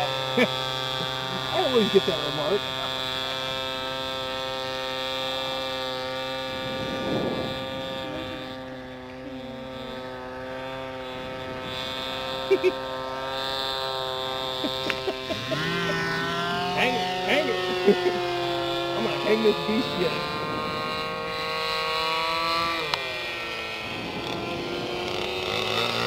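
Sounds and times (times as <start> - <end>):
model airplane engine drone: 0.0 - 26.0.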